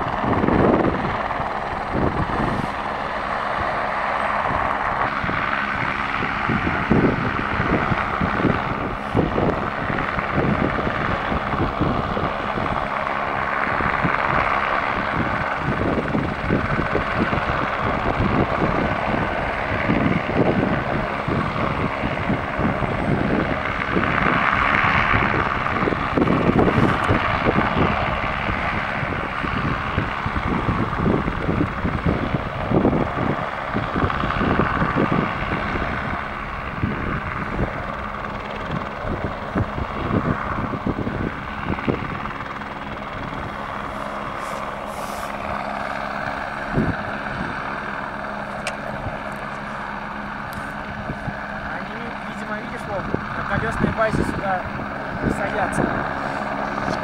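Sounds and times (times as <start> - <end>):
helicopter engine running: 0.0 - 57.0
helicopter rotor beating: 0.0 - 57.0.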